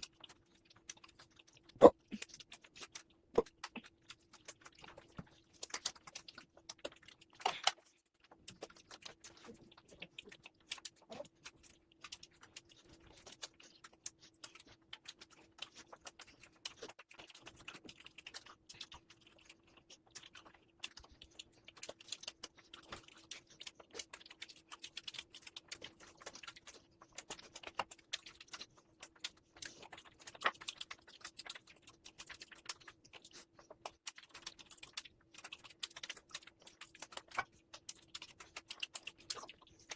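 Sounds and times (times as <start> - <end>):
wet chewing and mouth smacks: 0.0 - 39.9.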